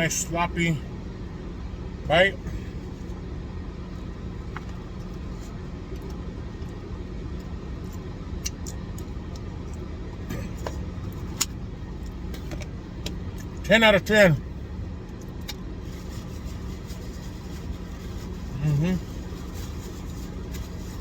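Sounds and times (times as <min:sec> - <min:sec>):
low rumble and hum: 0:00.0 - 0:21.0.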